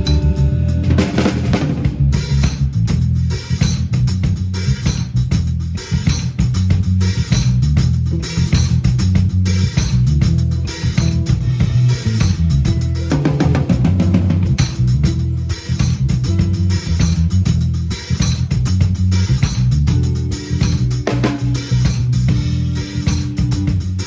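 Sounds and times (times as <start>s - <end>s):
drum kit beat: 0.0s - 24.0s
live band playing: 0.0s - 24.0s.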